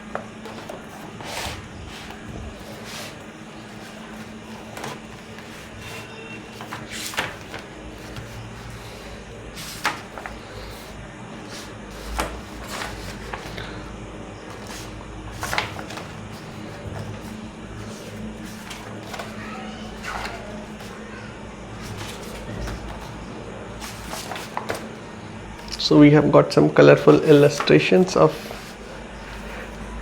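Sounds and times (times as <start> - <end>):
book pages turning: 0.0 - 25.8, 26.9 - 30.0
paper rustling: 0.0 - 25.8, 26.8 - 30.0
faint steady hum: 0.0 - 30.0.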